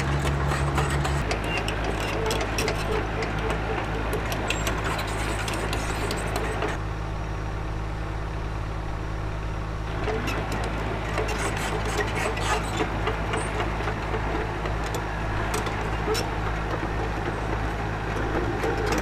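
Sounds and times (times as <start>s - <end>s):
scraping and clicking: 0.0s - 6.8s, 10.0s - 19.0s
excavator diesel engine running: 0.0s - 19.0s.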